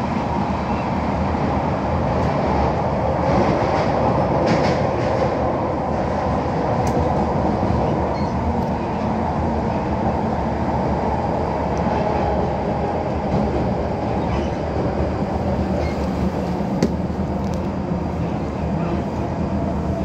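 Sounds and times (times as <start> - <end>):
electric train running in tunnel: 0.0 - 20.0.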